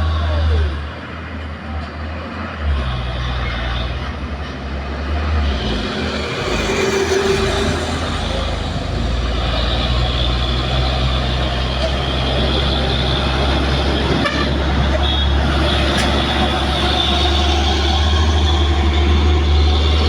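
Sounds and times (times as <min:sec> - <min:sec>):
heavy truck engine under load: 0:00.0 - 0:20.0.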